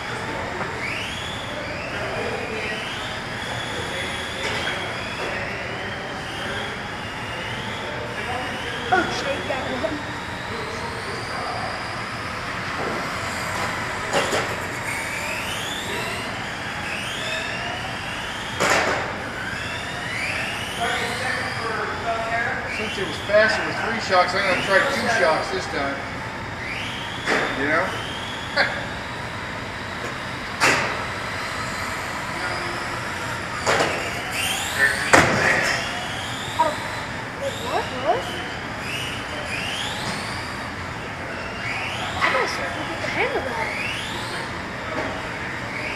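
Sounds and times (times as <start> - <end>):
radio-controlled car motors whining: 0.0 - 45.9.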